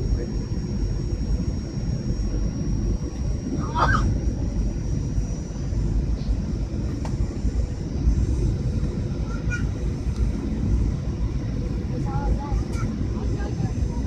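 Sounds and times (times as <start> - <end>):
airliner cabin rumble: 0.0 - 14.0
thin high whine: 0.0 - 14.0.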